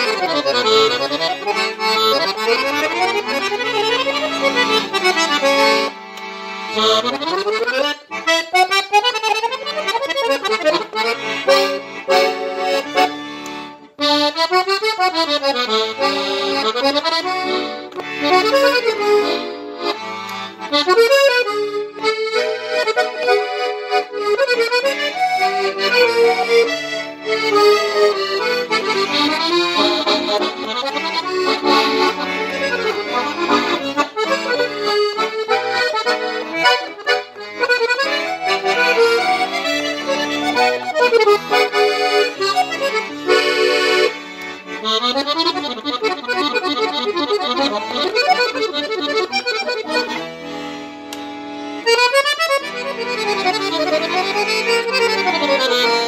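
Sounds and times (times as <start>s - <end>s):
accordion playing: 0.0s - 56.0s.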